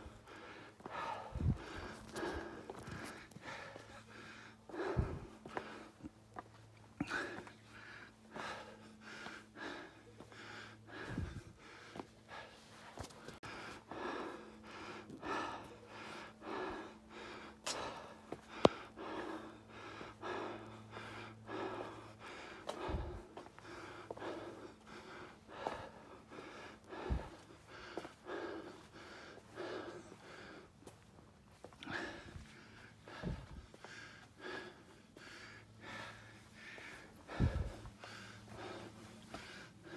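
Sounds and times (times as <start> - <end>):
faint steady hum: 0.0 - 39.9
person breathing hard: 0.0 - 39.9.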